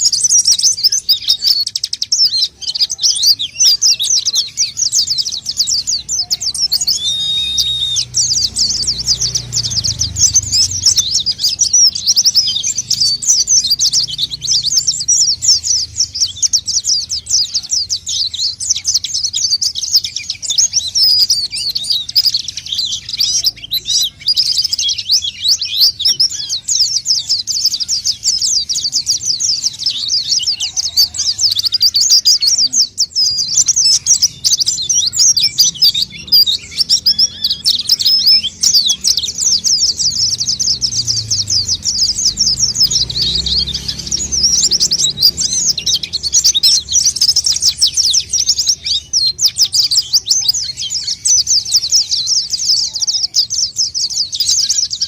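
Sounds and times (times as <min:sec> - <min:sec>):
high twittering bird chirps: 0:00.0 - 0:55.0.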